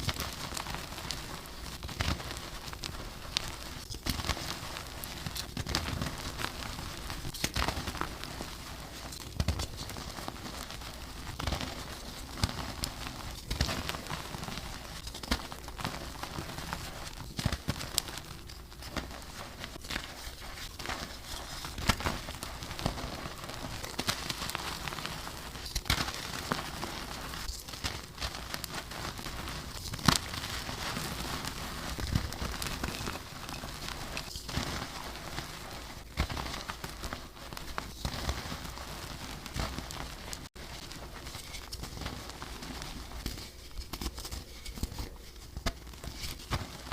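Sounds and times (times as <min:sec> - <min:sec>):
chalk being crushed and crumbled: 0:00.0 - 0:46.9.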